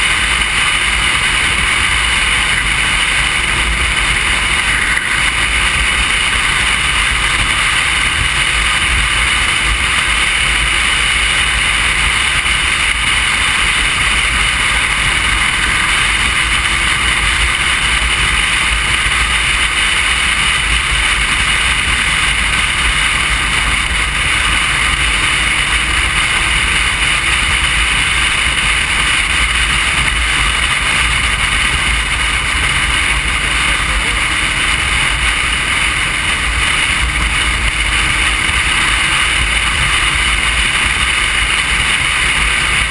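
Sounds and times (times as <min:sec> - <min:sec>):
motorcycle engine: 0:00.0 - 0:42.9
road rumble: 0:00.0 - 0:42.9
wind rushing over microphone: 0:00.0 - 0:42.9.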